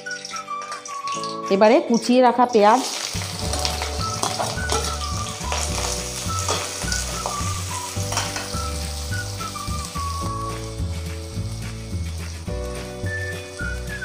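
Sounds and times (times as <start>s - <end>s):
background music: 0.0s - 14.0s
onions sizzling in oil: 0.0s - 14.0s.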